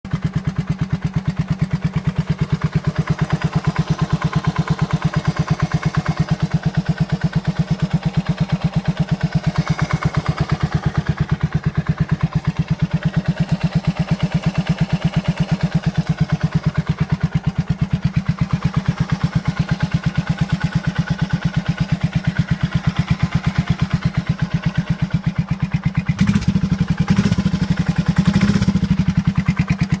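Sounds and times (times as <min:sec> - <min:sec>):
motorcycle engine idling: 0:00.0 - 0:30.0
engine throttle blips: 0:00.9 - 0:30.0.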